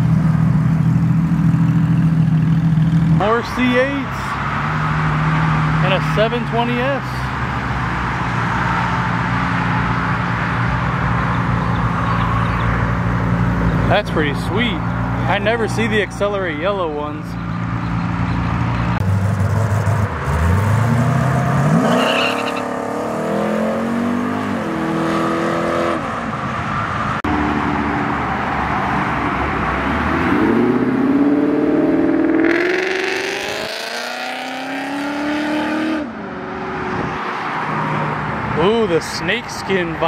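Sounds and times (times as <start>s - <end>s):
car engines accelerating hard: 0.0s - 40.0s.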